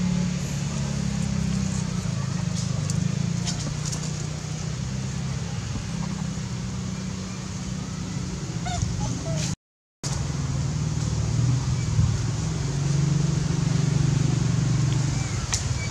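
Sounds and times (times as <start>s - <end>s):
low engine hum: 0.0s - 15.9s.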